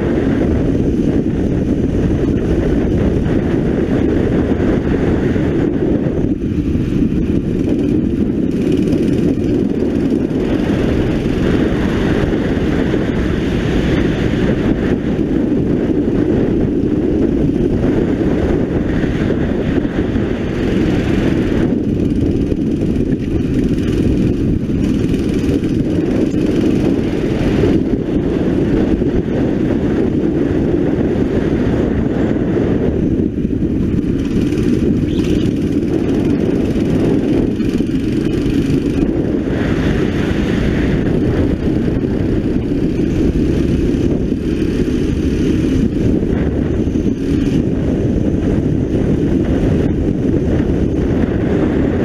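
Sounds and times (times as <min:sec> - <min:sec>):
kart engine running hard: 0:00.0 - 0:52.0.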